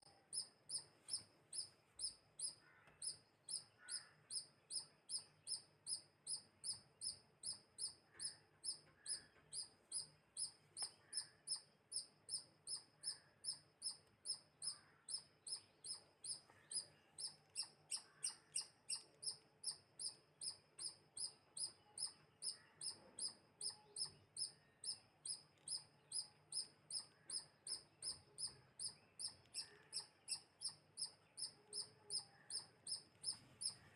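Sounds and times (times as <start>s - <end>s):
small animal chirping: 0.0s - 33.9s.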